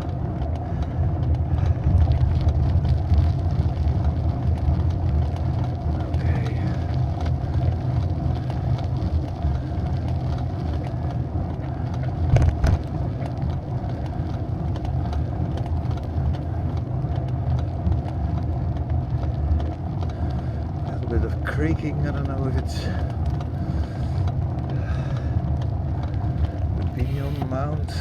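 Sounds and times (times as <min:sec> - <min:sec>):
bicycle clicks rattles and creaks: 0:00.0 - 0:28.0
bicycle rolling over rough road: 0:00.0 - 0:28.0.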